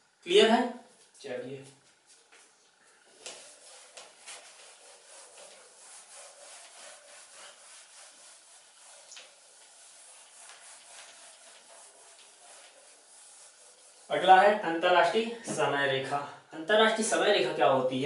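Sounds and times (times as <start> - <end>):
duster scrubbing a whiteboard: 1.0 - 15.7.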